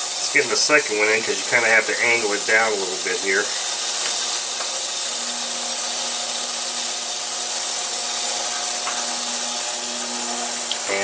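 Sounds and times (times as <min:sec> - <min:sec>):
ultrasonic cleaner hissing: 0:00.0 - 0:11.0.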